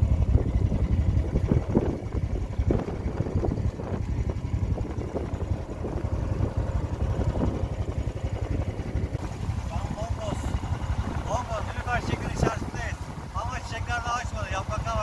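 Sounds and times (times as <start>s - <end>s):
boat motor puttering: 0.0s - 15.0s
wind rumbling on microphone: 0.0s - 15.0s.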